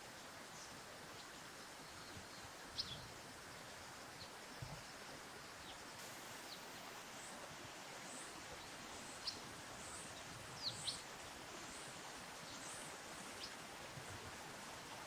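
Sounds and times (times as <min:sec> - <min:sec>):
outdoor background hiss: 0:00.0 - 0:15.0
small birds chirping: 0:00.2 - 0:07.4, 0:08.0 - 0:13.7.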